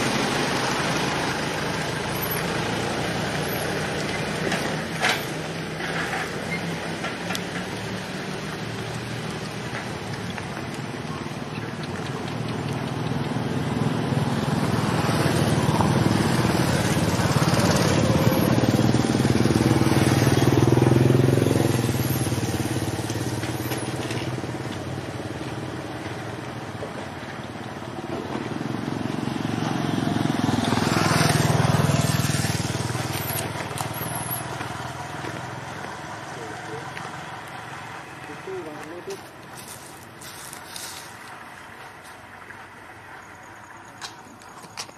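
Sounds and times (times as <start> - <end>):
passing motor vehicles: 0.0 - 44.9.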